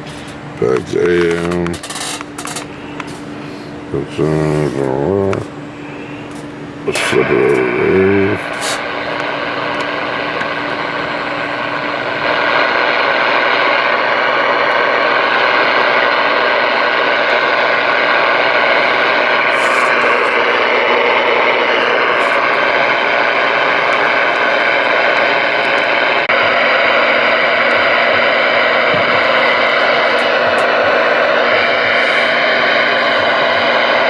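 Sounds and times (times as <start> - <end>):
radio static hiss: 0.0 - 34.0.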